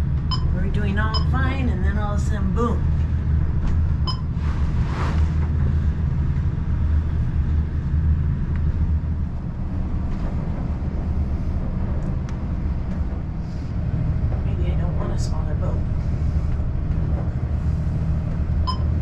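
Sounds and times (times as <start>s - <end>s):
boat diesel engine droning: 0.0s - 19.0s.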